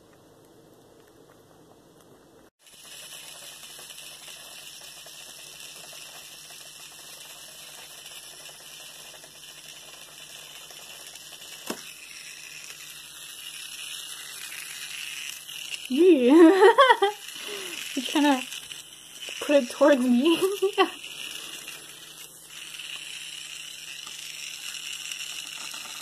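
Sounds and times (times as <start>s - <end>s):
toy motor and gears whirring: 2.6s - 26.0s.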